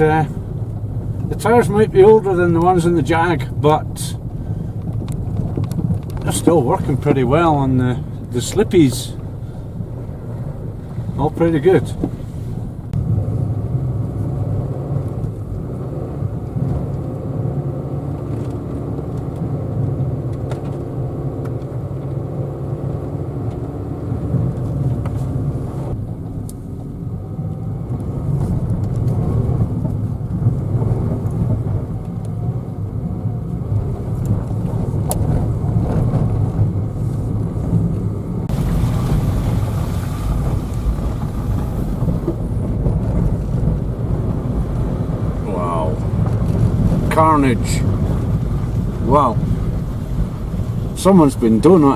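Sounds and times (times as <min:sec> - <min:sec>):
car engine running: 0:00.0 - 0:51.9
tyre and road noise: 0:00.0 - 0:51.9.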